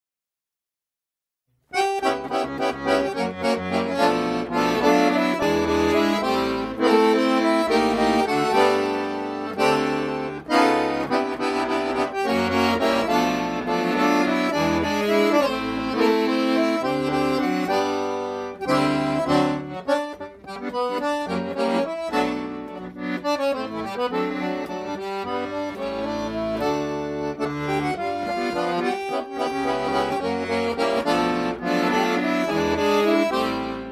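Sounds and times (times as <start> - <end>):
instrumental background music: 1.7 - 33.9.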